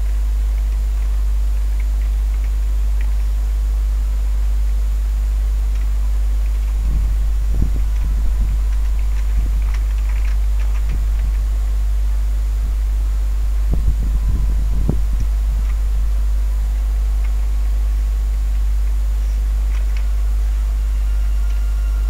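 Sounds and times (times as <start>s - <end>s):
constant hiss: 0.0s - 22.0s
low electrical hum: 0.0s - 22.0s
soft low thumps: 4.2s - 22.0s.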